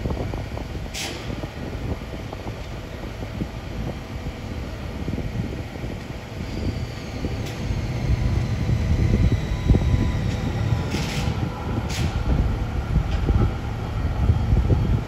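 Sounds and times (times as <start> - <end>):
tram motors and wheels rumbling: 0.0 - 15.0.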